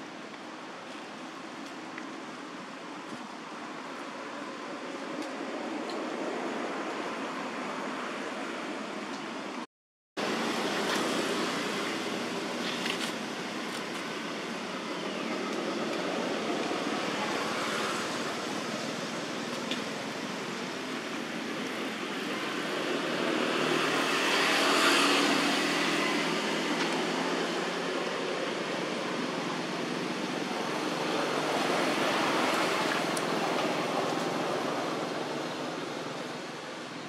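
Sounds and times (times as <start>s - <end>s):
steady rushing background noise: 0.0s - 9.6s, 10.2s - 37.0s.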